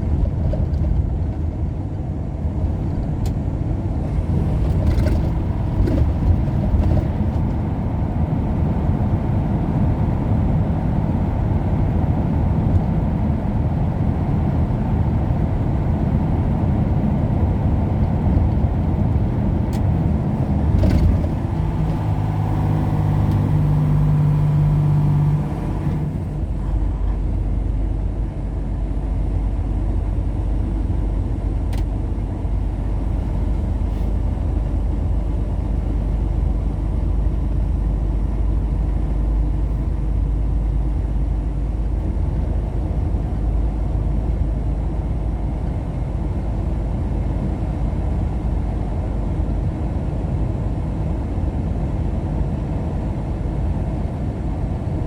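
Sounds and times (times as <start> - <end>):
engine hum: 0.0 - 55.0
road noise rumble: 0.0 - 55.0.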